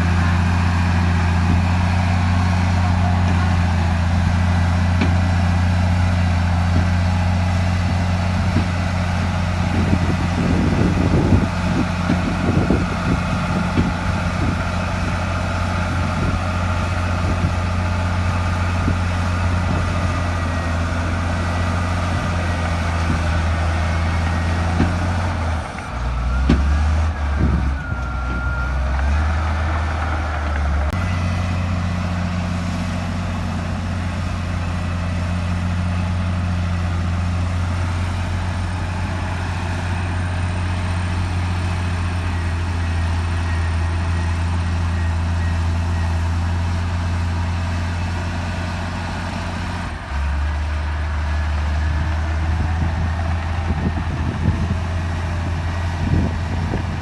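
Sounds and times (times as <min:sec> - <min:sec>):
heavy diesel engine under load: 0:00.0 - 0:57.0.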